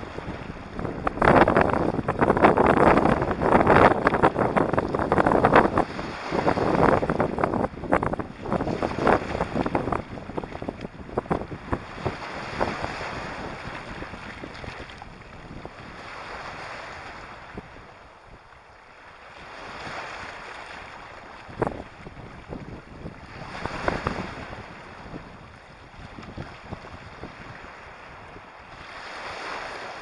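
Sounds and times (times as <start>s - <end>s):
waves washing over pebbles: 0.0s - 17.9s, 19.2s - 30.0s
wind on microphone: 0.0s - 30.0s.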